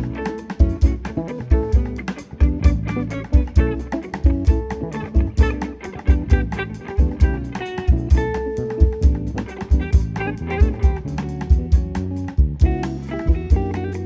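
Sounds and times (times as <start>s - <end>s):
band playing instrumental music: 0.0s - 14.0s.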